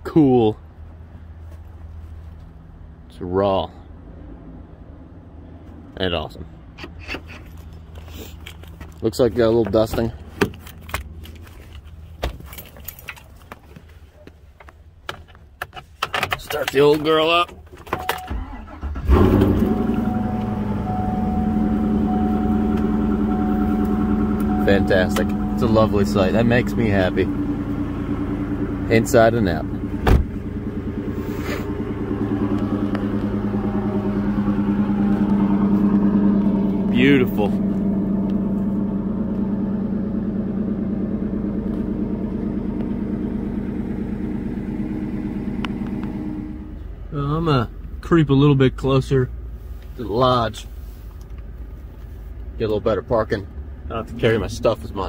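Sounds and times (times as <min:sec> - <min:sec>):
truck engine cranking and idling: 0:03.9 - 0:55.0.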